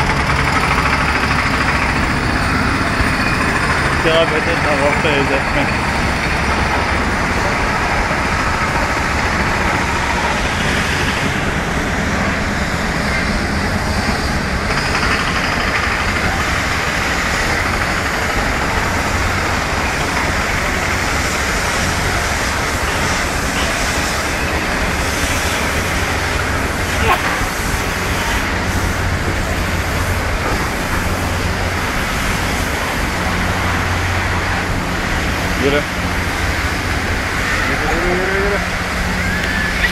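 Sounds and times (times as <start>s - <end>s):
crowd walking hubbub: 0.0s - 39.9s.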